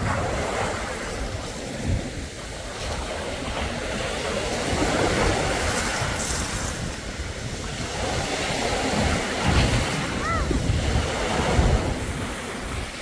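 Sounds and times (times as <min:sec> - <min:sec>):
sea waves washing on beach: 0:00.0 - 0:13.0.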